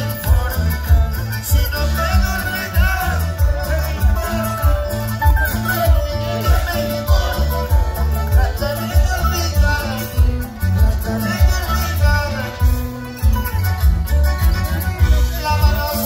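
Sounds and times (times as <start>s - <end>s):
amplified live band music: 0.0s - 16.0s
steady bass beat: 0.0s - 16.0s.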